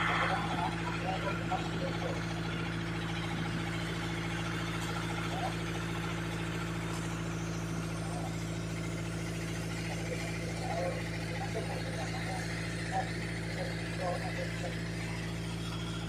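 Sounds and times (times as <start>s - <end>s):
jeep engine low drone: 0.0s - 16.0s.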